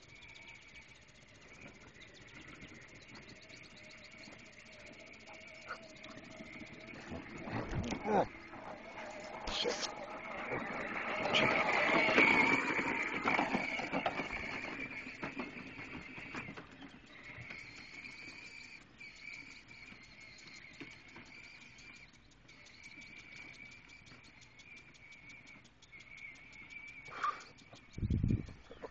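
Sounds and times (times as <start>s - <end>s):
faint regular ticks: 0.0s - 28.9s
high-pitched chirring tone: 0.0s - 28.9s.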